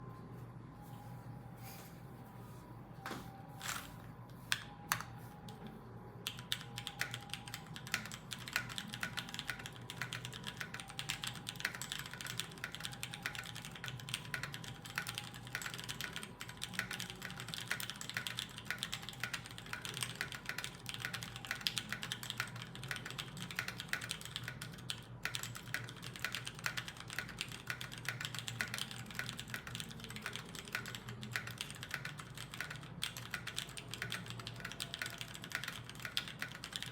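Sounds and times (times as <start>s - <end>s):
mechanical keyboard typing: 6.2s - 36.9s.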